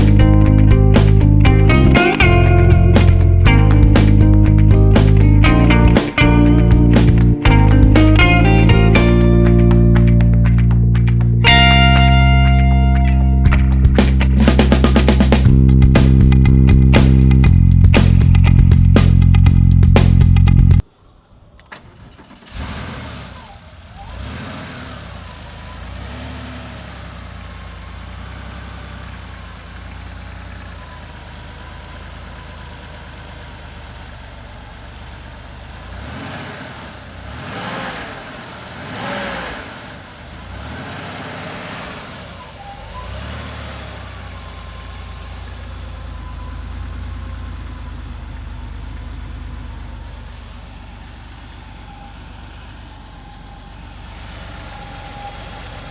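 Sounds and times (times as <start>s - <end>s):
car engine idling: 0.0s - 55.9s
engine throttle blips: 0.0s - 55.9s.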